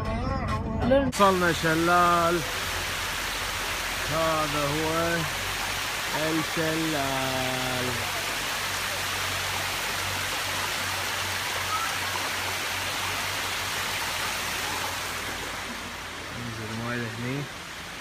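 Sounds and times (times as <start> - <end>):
waterfall rushing: 1.1 - 18.0.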